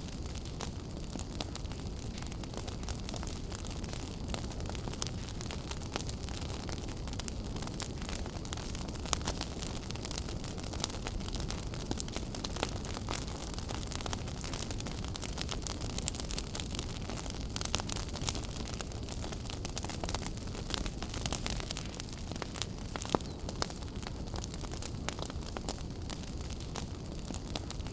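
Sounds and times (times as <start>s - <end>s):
fire crackling: 0.0s - 27.9s
fire popping: 0.0s - 27.9s
low rumble of fire: 0.0s - 27.9s.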